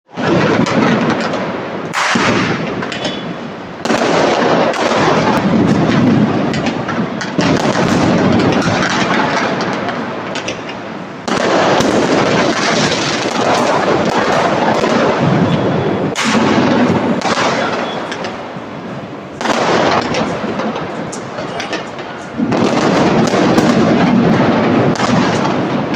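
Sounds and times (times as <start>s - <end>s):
firework bursts: 0.1s - 25.9s
firework crackling and popping: 0.1s - 25.9s.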